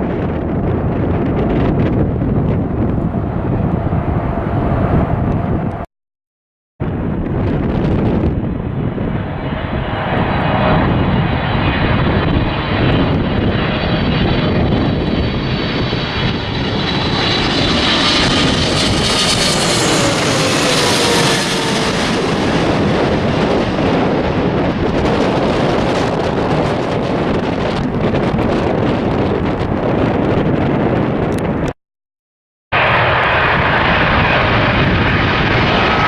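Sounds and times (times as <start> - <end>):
jet engines roaring past: 0.0 - 5.9, 6.8 - 31.8, 32.7 - 36.0.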